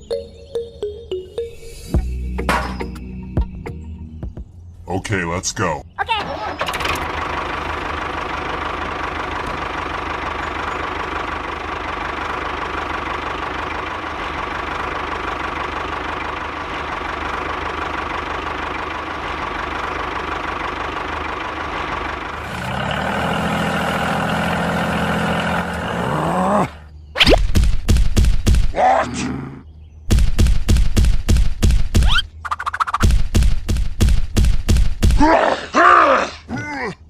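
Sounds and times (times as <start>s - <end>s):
tractor engine running: 4.4s - 28.8s, 30.0s - 35.2s.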